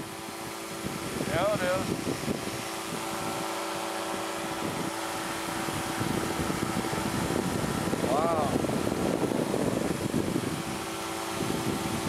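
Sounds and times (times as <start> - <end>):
engine and propeller drone: 0.0 - 12.0.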